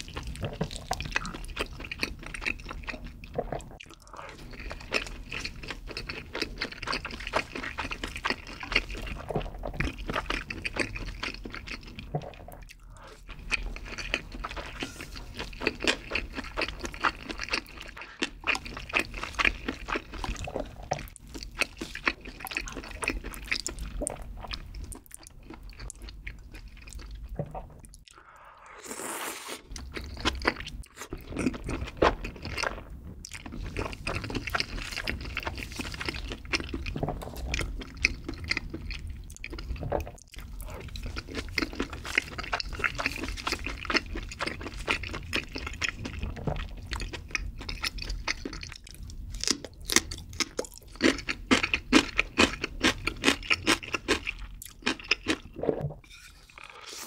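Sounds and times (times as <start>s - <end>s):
wet chewing and mouth clicks: 0.0s - 28.8s, 29.4s - 56.0s.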